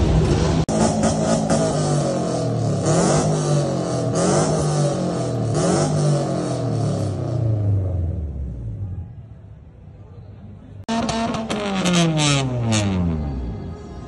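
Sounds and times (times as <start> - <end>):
car engine revving: 0.0 - 8.8, 10.9 - 13.6.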